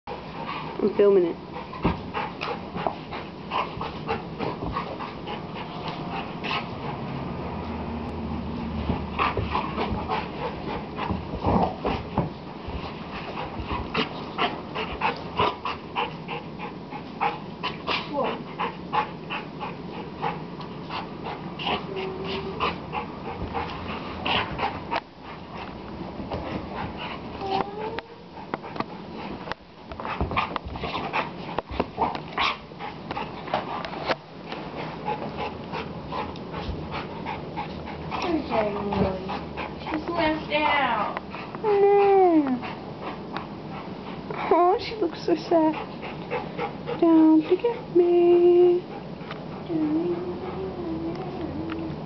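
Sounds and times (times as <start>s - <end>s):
dogs play-wrestling noises: 0.1s - 52.0s.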